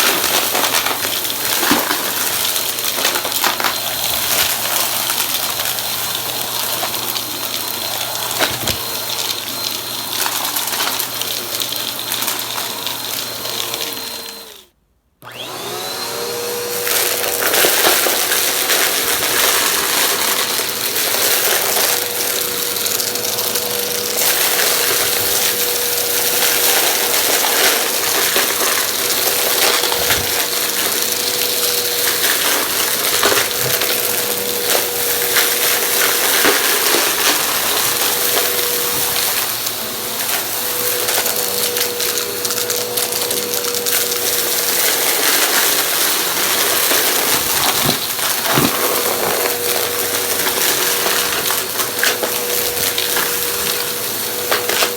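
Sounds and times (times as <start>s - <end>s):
debris crackling in vacuum: 0.0s - 14.5s, 16.8s - 54.9s
vacuum cleaner motor running: 0.0s - 54.9s.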